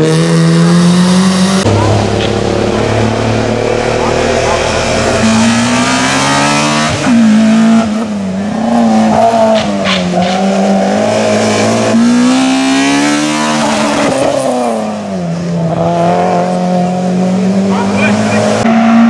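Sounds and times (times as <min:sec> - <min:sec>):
race car engine at full throttle: 0:00.0 - 0:19.0.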